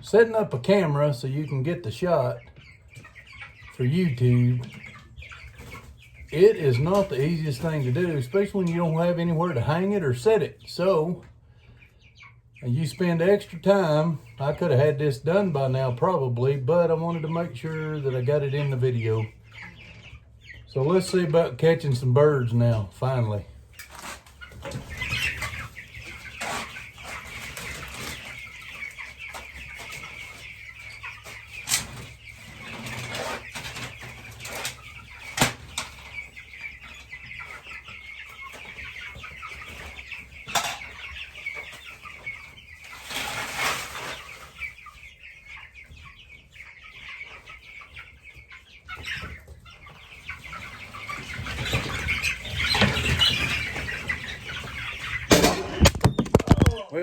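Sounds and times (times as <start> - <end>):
chickens peeping and clucking: 0.0 - 57.0.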